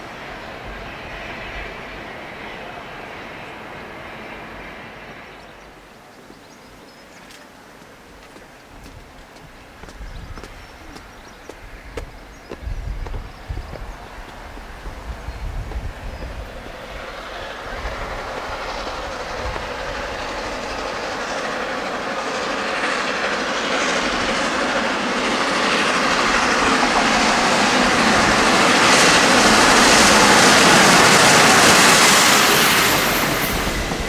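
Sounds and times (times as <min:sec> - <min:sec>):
steam train passing at speed: 0:00.0 - 0:34.0.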